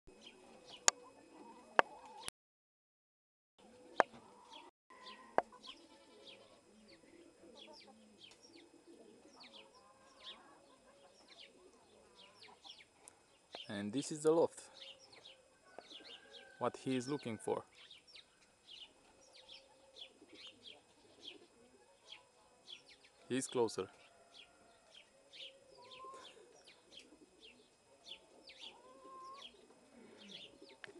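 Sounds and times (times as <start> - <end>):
birds chirping: 0.1 - 2.3, 3.7 - 30.9.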